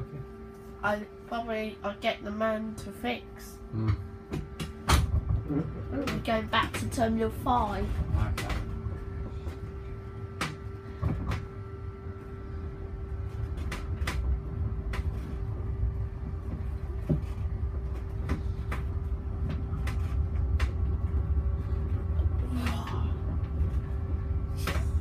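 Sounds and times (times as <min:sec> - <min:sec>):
electric pod rumble and hum: 0:00.0 - 0:25.0.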